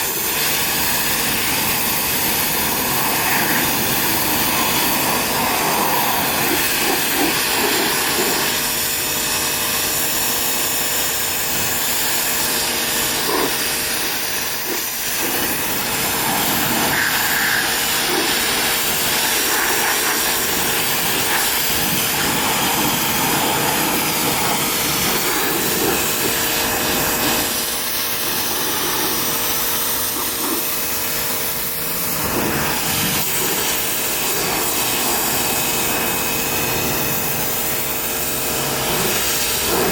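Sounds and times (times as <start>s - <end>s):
electric motor and pump hum: 0.0s - 39.9s
pressure washer water jet hiss: 0.0s - 39.9s.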